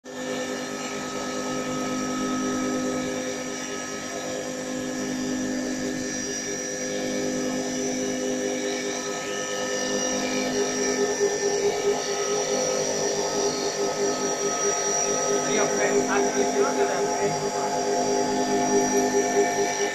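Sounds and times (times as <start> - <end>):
lathe motor whining: 0.2 - 19.9.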